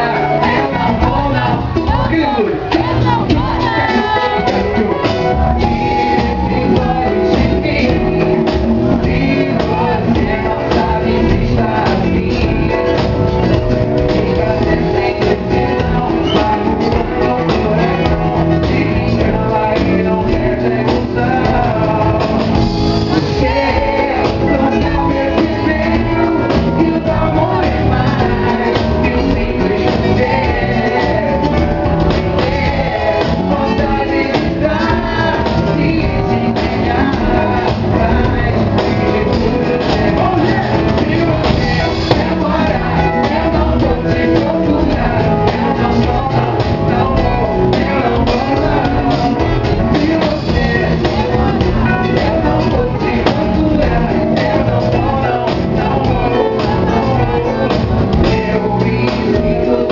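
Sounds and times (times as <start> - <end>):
live band music with drums: 0.0 - 59.9
man singing into a microphone: 0.0 - 59.9.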